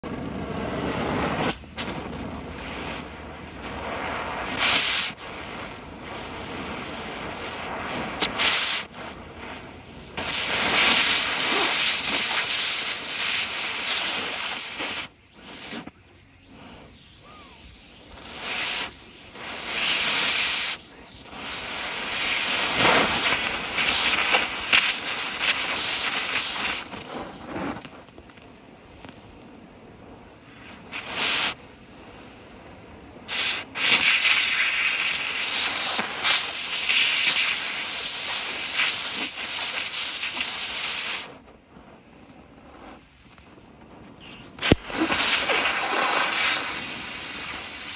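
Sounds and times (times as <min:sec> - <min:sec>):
cutting torch hissing: 0:00.0 - 0:47.9.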